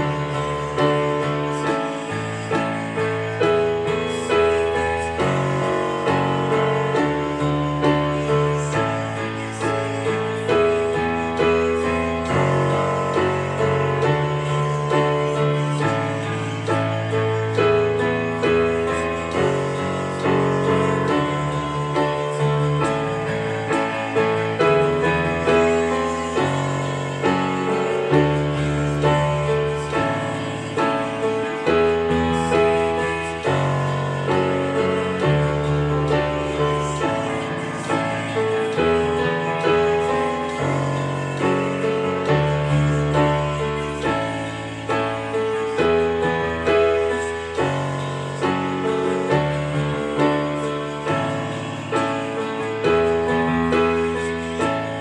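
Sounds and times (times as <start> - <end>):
digital piano chords: 0.0 - 55.0.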